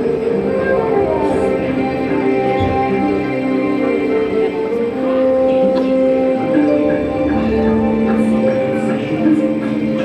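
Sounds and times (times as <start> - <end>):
eerie soundtrack music: 0.0 - 10.0.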